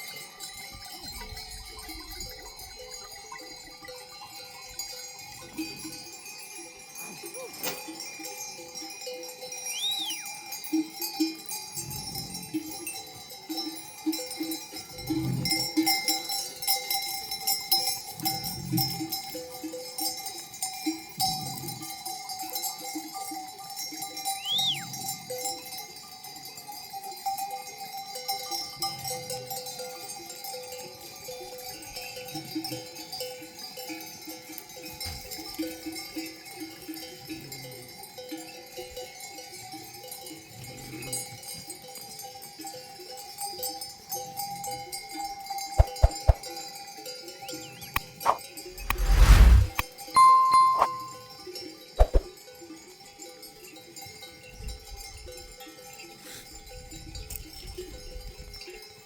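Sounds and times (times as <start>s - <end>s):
sheep bells clanking: 0.0s - 47.9s, 50.2s - 59.0s.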